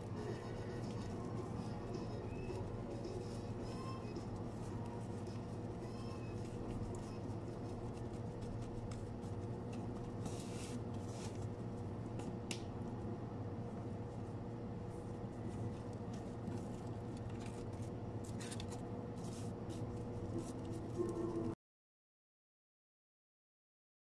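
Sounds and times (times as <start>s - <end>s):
low machine hum: 0.0s - 21.6s.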